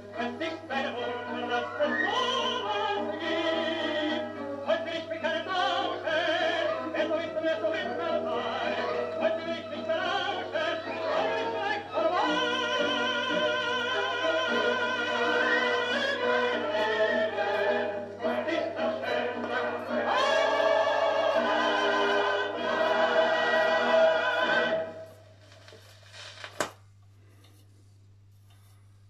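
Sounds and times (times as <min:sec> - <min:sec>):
tenor singing with orchestra: 0:00.0 - 0:25.0.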